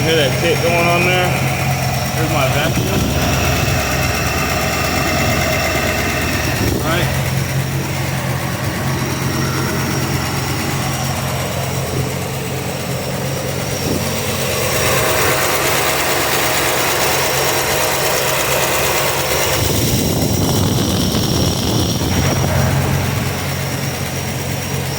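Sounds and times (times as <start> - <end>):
engine idling: 0.0 - 24.9
engine ticking: 0.0 - 24.9.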